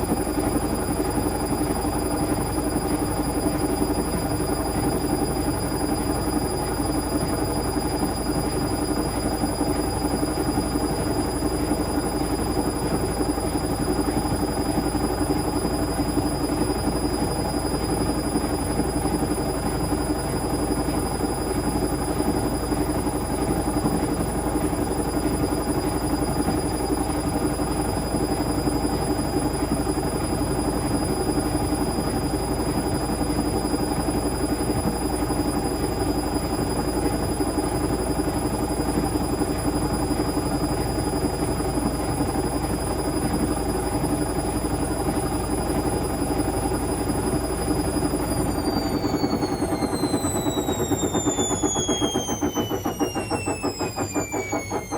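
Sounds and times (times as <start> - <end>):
washing machine spin whine: 0.0 - 54.9.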